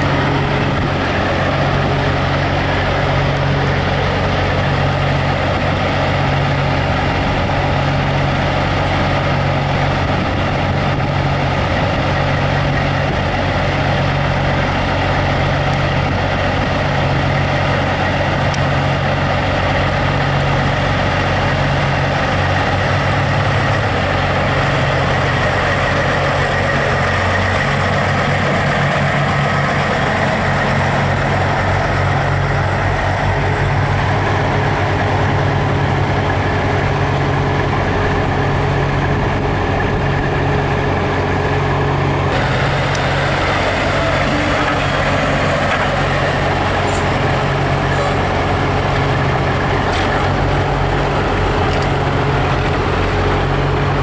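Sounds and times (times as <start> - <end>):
diesel truck engines idling: 0.0 - 54.0
truck passing by: 0.0 - 54.0.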